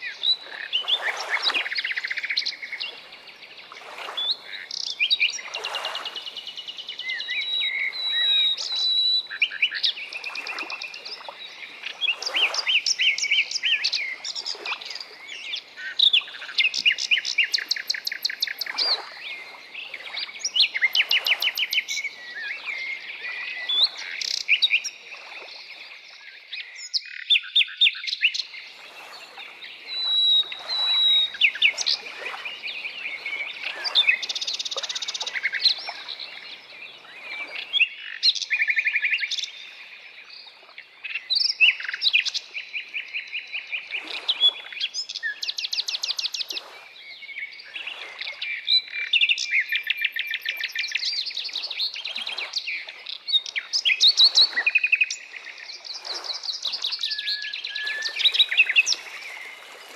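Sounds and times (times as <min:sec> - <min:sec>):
songbirds singing and trilling: 0:00.0 - 0:59.9.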